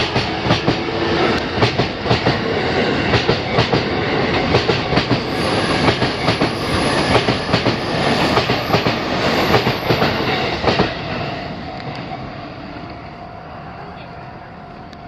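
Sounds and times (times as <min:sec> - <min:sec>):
train wheels clacking: 0:00.0 - 0:12.1
train rumble: 0:00.0 - 0:15.0.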